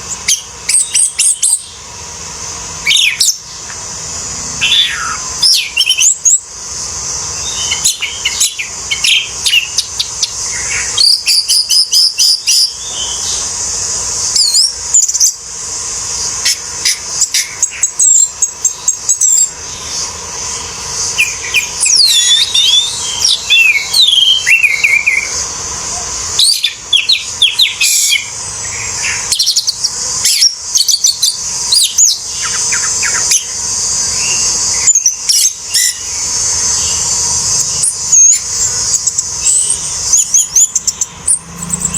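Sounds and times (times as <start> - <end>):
steady high hiss: 0.0 - 41.9
thrush singing whistles and trills: 0.0 - 41.9.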